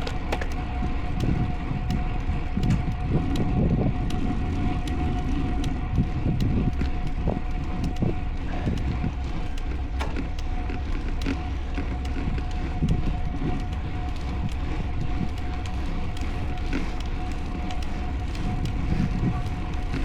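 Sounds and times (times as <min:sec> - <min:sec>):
faint steady hum: 0:00.0 - 0:20.0
wind rumbling on microphone: 0:00.0 - 0:20.0.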